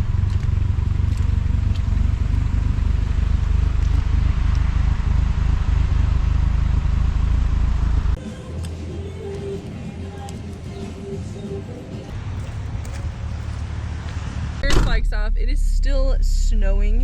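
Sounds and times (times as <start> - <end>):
engine running with loping beat: 0.0 - 17.0.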